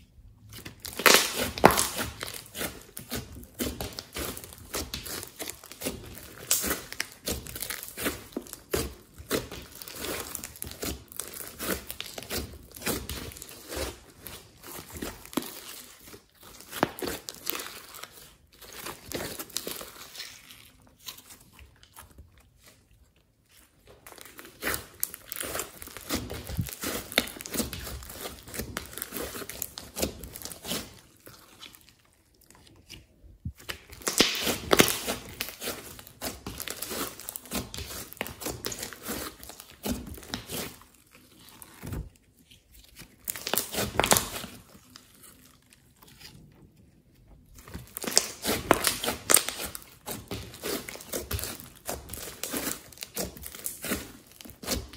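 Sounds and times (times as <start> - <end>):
slime squelching and crackling: 0.0 - 54.9.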